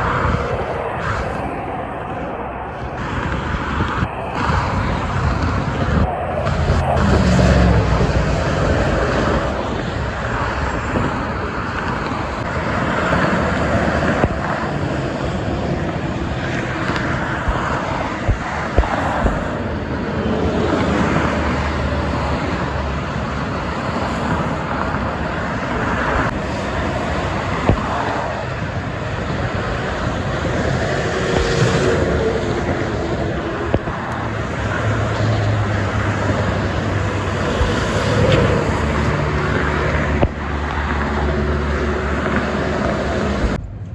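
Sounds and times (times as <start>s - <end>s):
trucks and cars passing: 0.0s - 43.9s.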